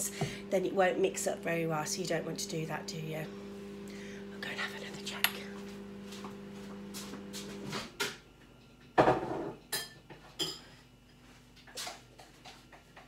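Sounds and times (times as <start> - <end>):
microwave oven hum: 0.0 - 13.0.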